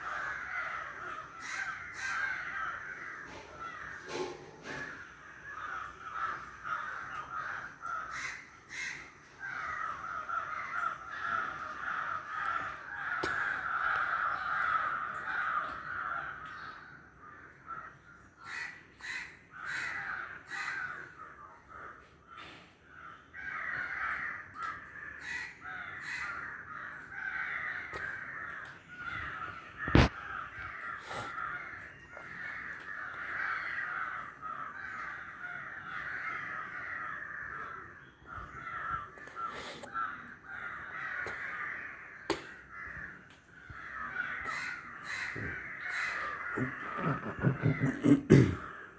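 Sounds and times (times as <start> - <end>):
crows cawing: 0.0 - 48.9.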